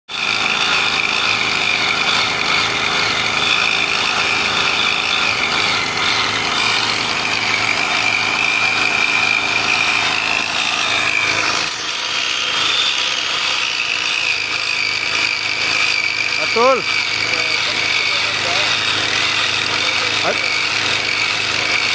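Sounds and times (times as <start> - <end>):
saw grinding through steel: 0.1 - 21.9.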